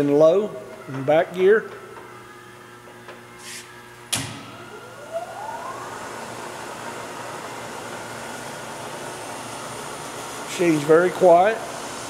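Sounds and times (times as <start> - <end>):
mill spindle whine: 0.0 - 12.0.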